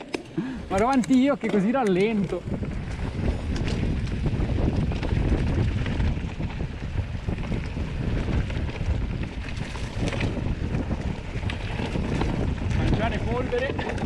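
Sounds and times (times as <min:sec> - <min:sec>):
small clicks and rattles: 0:00.0 - 0:06.6, 0:07.4 - 0:14.0
wind buffeting microphone: 0:00.0 - 0:14.0.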